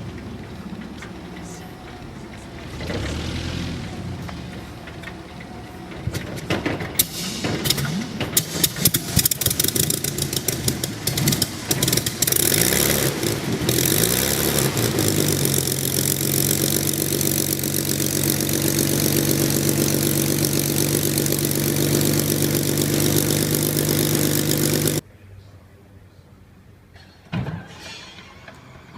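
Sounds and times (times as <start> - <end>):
aircraft engine starting and idling: 0.0 - 25.0.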